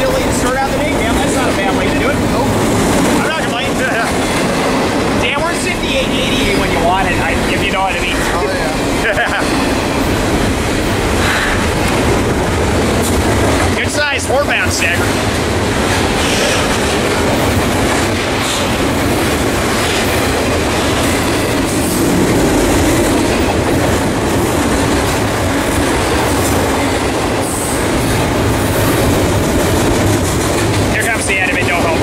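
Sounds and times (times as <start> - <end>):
steel wheels running over rails: 0.0 - 32.0.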